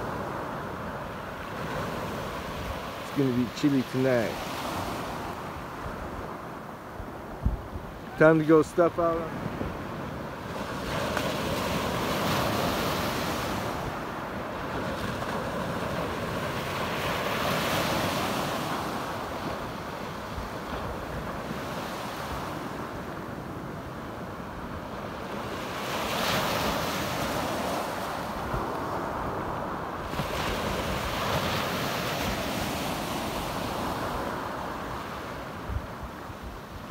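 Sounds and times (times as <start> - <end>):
waves breaking on pebble beach: 0.0 - 6.3, 7.9 - 36.9
wind rumble on microphone: 4.6 - 8.2, 9.2 - 36.9.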